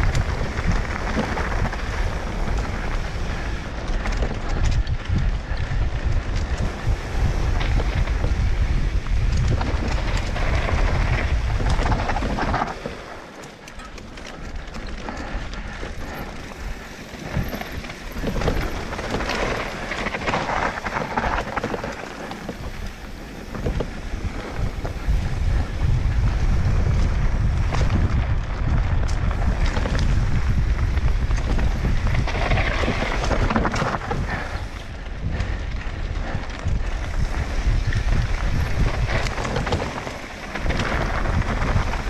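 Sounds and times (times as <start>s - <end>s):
bike knocking and rattling: 0.0s - 42.0s
tyres on rough trail: 0.0s - 42.0s
wind buffeting microphone: 0.0s - 42.0s.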